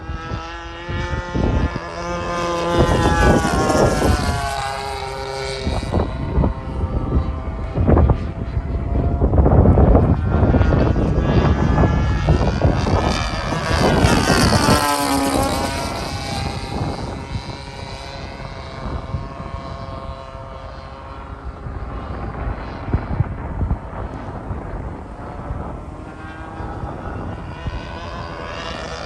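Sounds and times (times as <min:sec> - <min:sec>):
model plane engine passing: 0:00.0 - 0:29.0.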